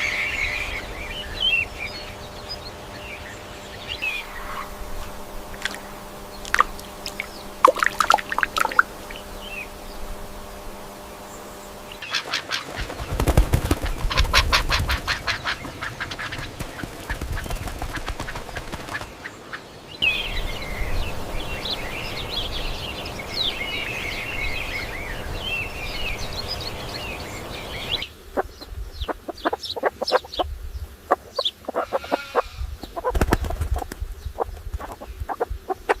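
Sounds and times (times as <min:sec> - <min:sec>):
dense high twittering: 0:00.0 - 0:19.4, 0:20.0 - 0:36.0
bird calls: 0:00.0 - 0:36.0.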